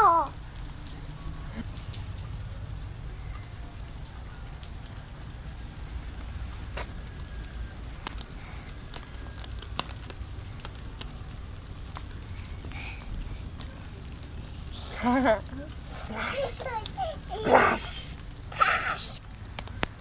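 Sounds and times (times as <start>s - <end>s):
light rain falling: 0.0s - 20.0s
steady low rumble: 0.3s - 17.3s.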